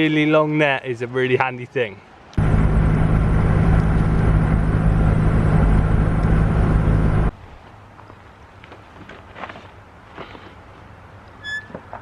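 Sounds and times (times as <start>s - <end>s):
vehicle engine and road noise: 2.1s - 12.0s.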